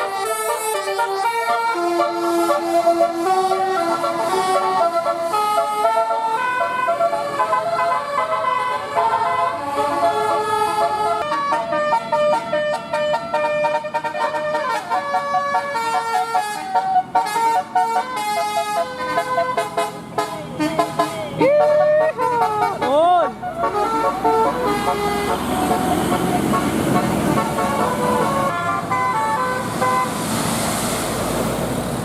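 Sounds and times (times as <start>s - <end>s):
musical air horn tune: 0.0s - 30.2s.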